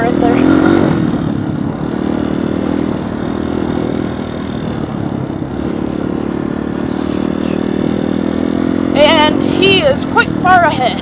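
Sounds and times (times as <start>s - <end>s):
dirt bike engine under throttle: 0.0s - 11.0s.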